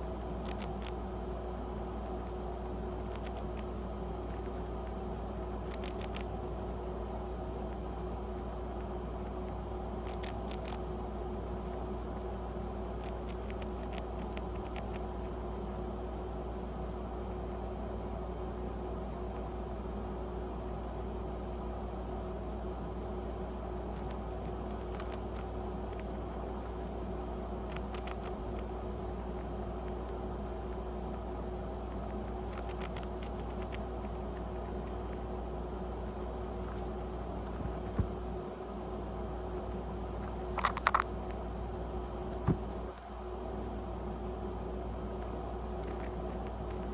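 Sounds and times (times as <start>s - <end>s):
rat nibbling crunching: 0.0s - 16.0s, 21.2s - 46.9s
steady background hum: 0.0s - 46.9s.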